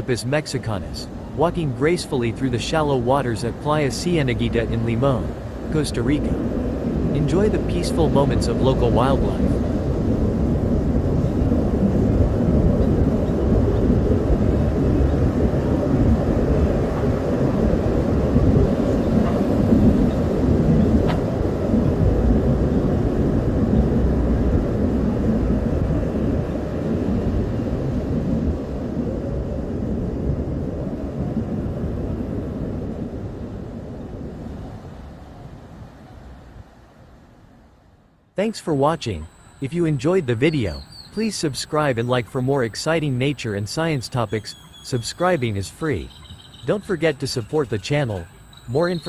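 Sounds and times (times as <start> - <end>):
low outdoor rumble: 0.0 - 49.0.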